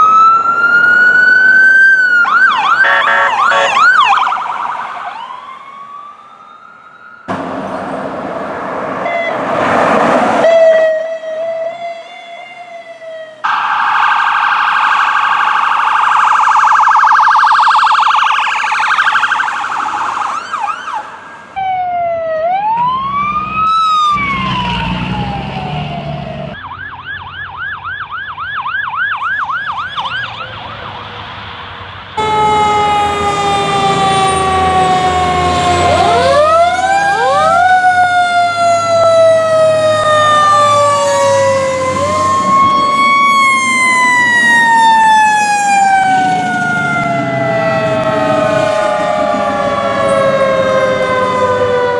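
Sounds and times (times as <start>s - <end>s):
police and fire sirens: 0.0s - 51.9s.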